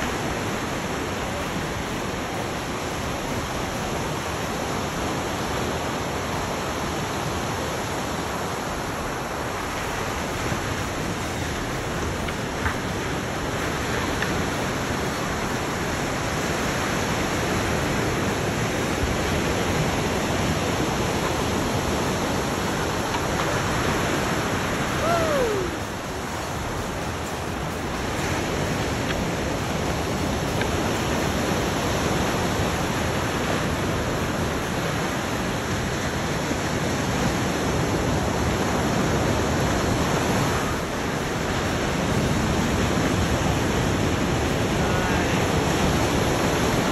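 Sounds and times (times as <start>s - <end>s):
ocean surf breaking: 0.0s - 46.9s.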